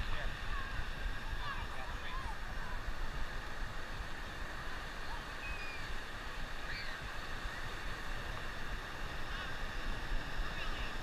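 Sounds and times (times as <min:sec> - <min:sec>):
ocean surf: 0:00.0 - 0:11.0
wind rumbling on microphone: 0:00.0 - 0:11.0.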